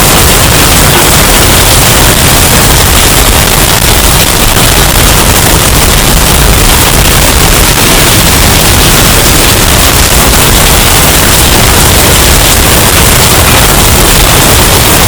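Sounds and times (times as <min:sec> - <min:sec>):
loud distorted storm wind: 0:00.0 - 0:15.0.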